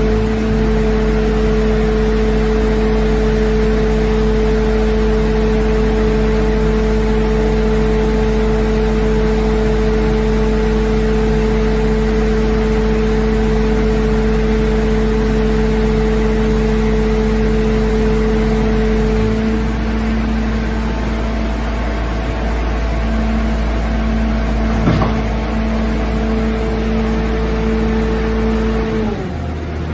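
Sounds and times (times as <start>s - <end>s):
loud machine drone: 0.0s - 29.9s.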